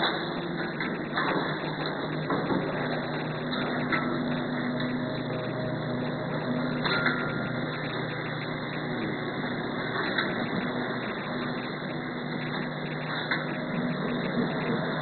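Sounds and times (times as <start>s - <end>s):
packing machine humming: 0.0s - 15.0s.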